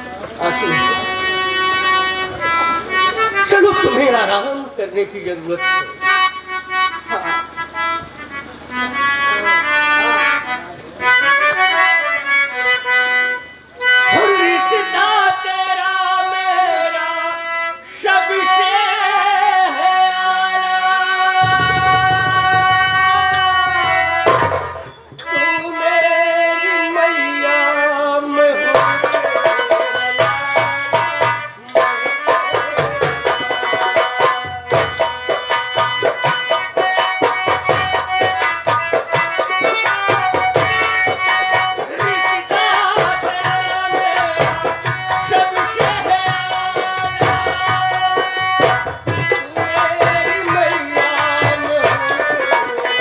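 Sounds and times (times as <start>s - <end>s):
tabla drumming: 0.0s - 27.5s, 28.2s - 53.0s
sustained melodic instrument: 0.0s - 53.0s.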